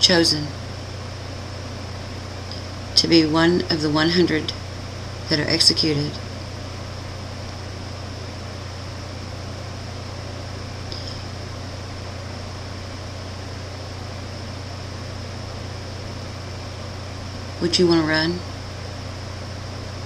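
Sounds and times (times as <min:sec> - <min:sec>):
steady low hum with hiss: 0:00.0 - 0:20.0.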